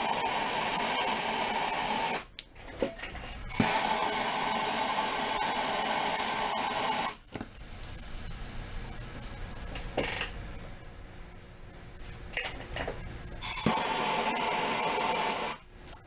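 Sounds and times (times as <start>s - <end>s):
torch flame hissing: 0.0s - 2.3s, 3.4s - 16.0s.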